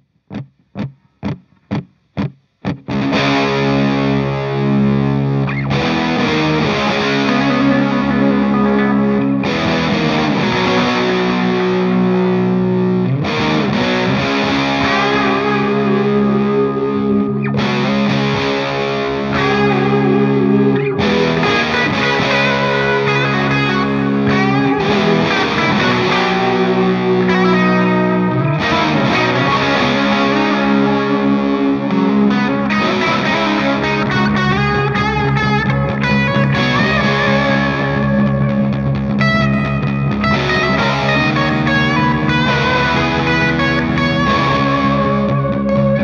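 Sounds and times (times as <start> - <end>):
distorted electric guitar riffs: 0.0 - 46.0.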